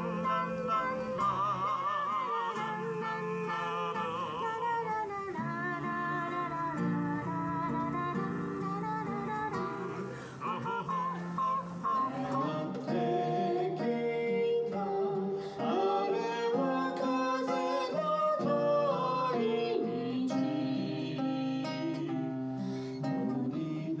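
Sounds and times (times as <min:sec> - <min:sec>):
acoustic guitar: 0:00.0 - 0:24.0
person singing: 0:00.0 - 0:24.0.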